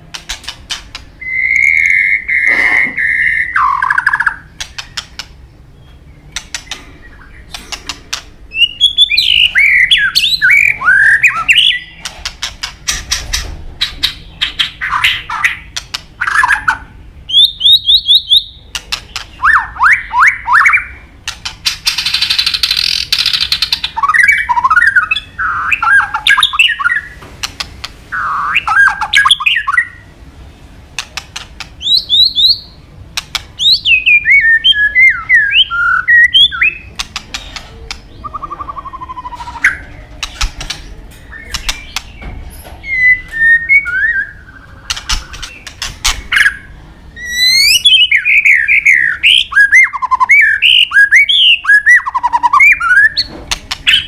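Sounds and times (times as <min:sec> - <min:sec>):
songbird whistling and clicking: 0:00.1 - 0:13.0, 0:14.0 - 0:30.0, 0:31.0 - 0:46.6, 0:47.2 - 0:54.0.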